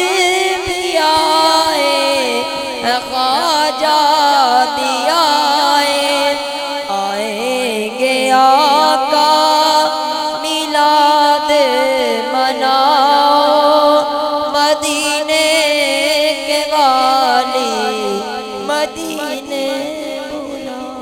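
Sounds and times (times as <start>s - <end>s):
man singing melismatic notes: 0.0s - 21.0s.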